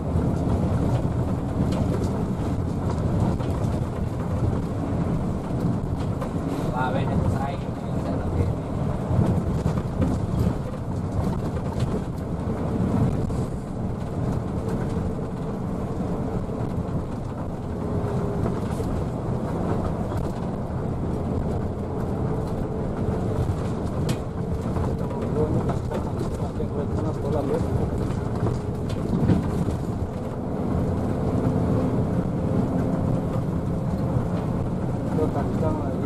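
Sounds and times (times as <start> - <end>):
bus engine and road rumble: 0.0 - 36.0.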